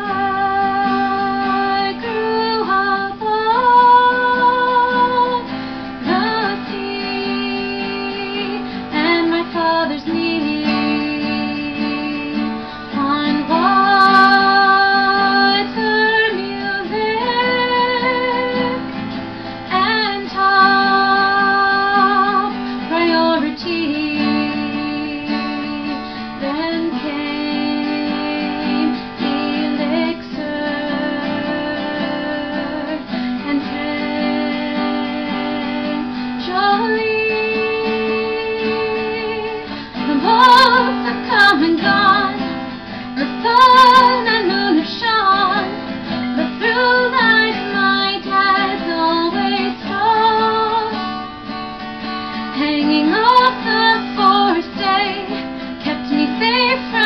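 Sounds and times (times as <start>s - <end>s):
strummed acoustic guitar: 0.0s - 57.0s
woman singing slow song: 0.0s - 57.0s.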